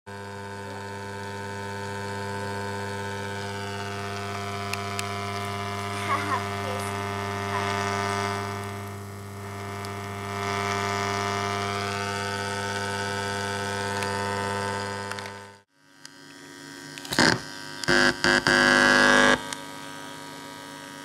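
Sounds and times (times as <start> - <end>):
speaker mains hum: 0.1 - 21.0.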